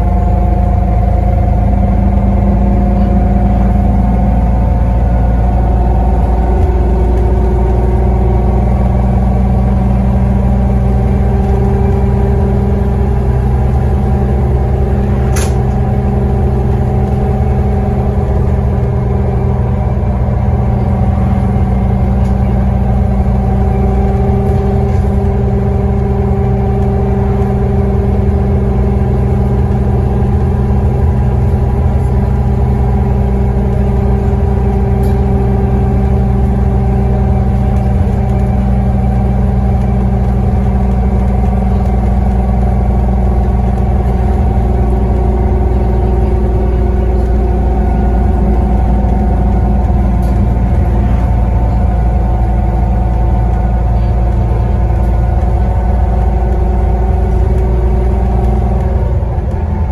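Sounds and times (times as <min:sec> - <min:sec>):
bus diesel engine: 0:00.0 - 0:59.9
differential whine: 0:00.0 - 0:59.9.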